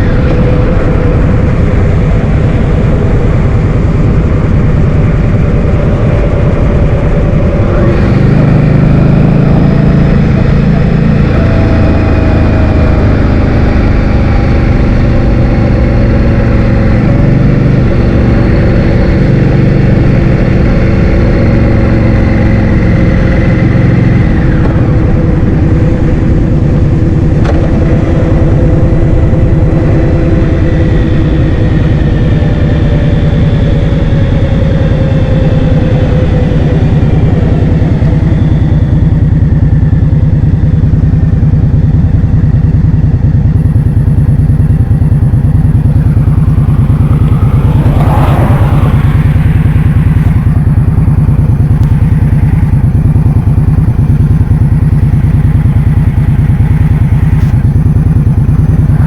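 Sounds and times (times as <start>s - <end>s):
scooter engine drone: 0.0s - 59.0s.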